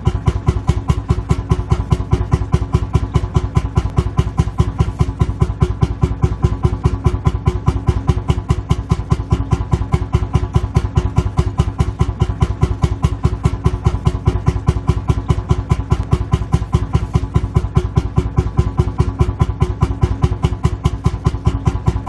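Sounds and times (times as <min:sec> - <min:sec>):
tractor engine idling with pops: 0:00.0 - 0:22.0.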